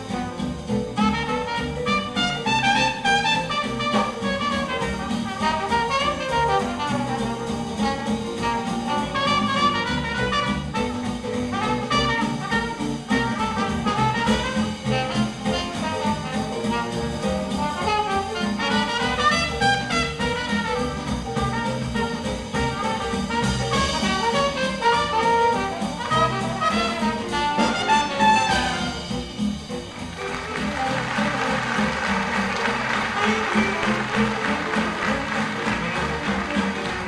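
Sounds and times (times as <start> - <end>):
drum kit beat: 0.0 - 37.0
trombone: 0.0 - 37.0
trumpet: 0.0 - 37.0.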